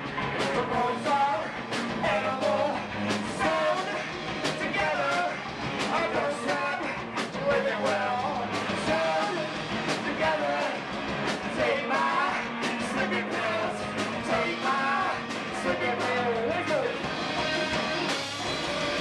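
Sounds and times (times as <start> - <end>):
drum beat with cymbal hits: 0.0 - 19.0
electric guitar: 0.0 - 19.0
person singing: 0.4 - 10.8, 11.5 - 19.0.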